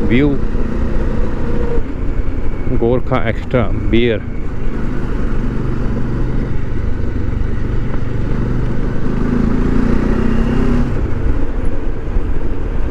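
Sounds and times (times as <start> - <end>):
motorcycle engine running: 0.0 - 12.9
road and wind noise: 0.0 - 12.9.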